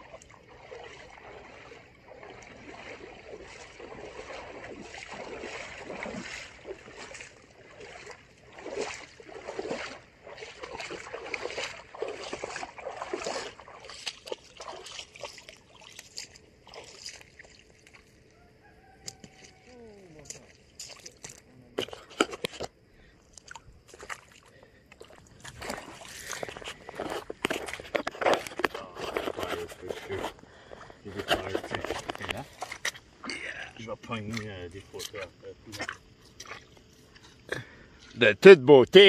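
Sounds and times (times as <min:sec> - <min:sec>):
feet splashing through water: 0:00.0 - 0:38.2
water trickling: 0:00.0 - 0:38.4.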